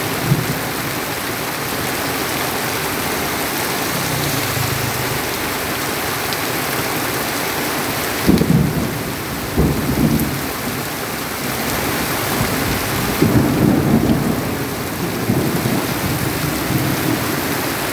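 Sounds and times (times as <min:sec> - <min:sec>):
heavy rain hissing on road: 0:00.0 - 0:17.9.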